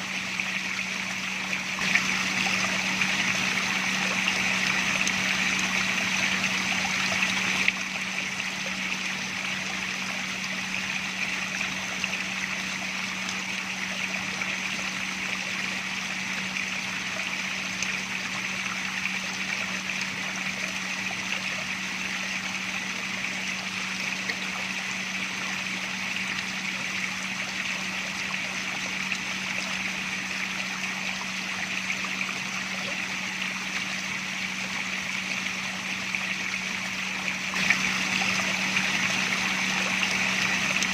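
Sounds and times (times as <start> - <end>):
low hum: 0.0 - 40.9
water trickling: 0.0 - 40.9.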